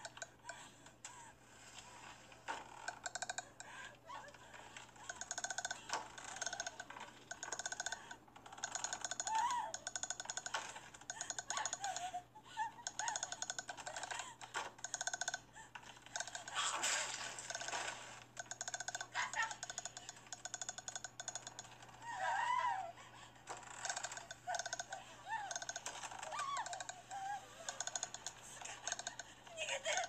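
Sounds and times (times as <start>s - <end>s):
clicking creaking throat rattle: 0.0s - 1.0s, 2.5s - 22.7s, 23.4s - 30.0s.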